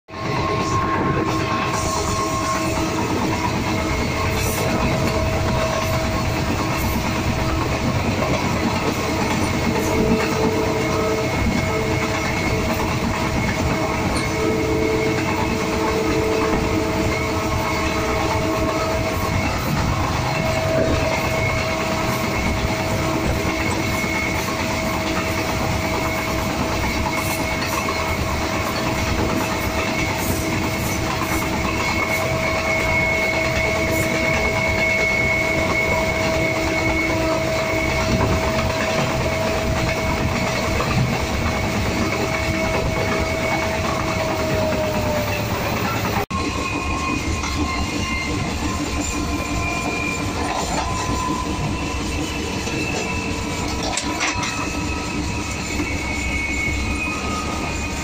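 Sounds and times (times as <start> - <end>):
high wheel squeal: 0.1 - 58.0
train wheels rumbling and clattering: 0.1 - 58.0.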